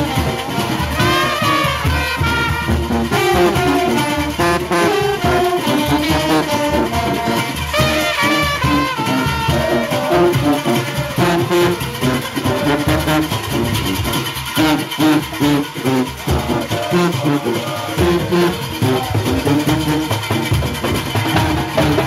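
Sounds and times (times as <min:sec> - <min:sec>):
brass section playing melody: 0:00.0 - 0:22.0
percussion: 0:00.0 - 0:22.0.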